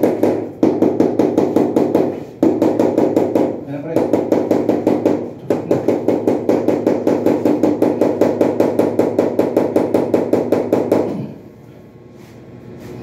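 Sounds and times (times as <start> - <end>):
tapping on wall tile: 0.0 - 11.3.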